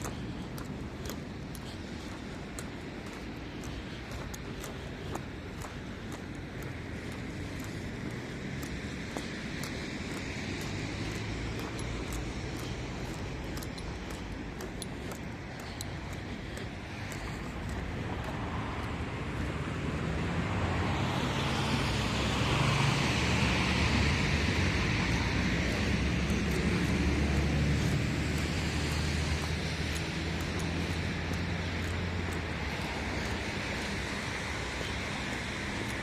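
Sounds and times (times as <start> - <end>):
tyre road hiss: 0.0 - 36.0
vehicle engine hum: 0.0 - 36.0.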